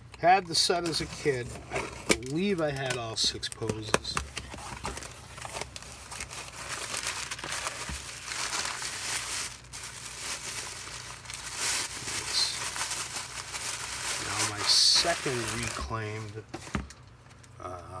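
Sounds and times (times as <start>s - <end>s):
packing paper crinkling: 0.4s - 17.5s.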